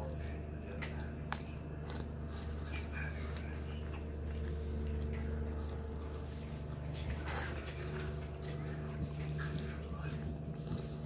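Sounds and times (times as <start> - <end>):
chewing chicken wing: 0.0 - 11.0
steady low hum: 0.0 - 11.0.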